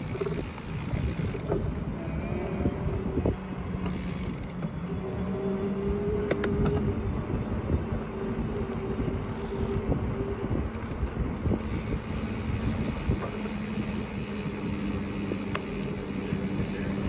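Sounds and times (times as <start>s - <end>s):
bicycle tyre noise on pavement: 0.0s - 17.0s
wind buffeting microphone: 0.0s - 17.0s.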